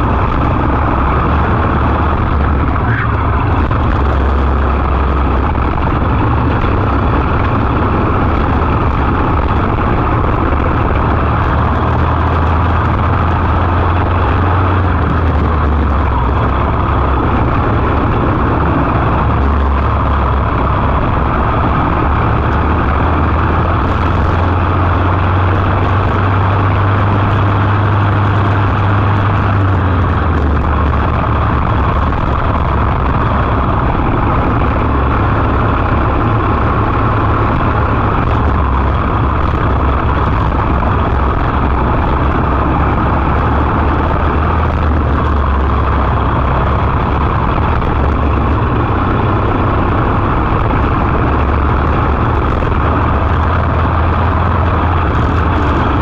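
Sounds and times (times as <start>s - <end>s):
kart engine racing: 0.0s - 56.0s
rushing air: 0.0s - 56.0s.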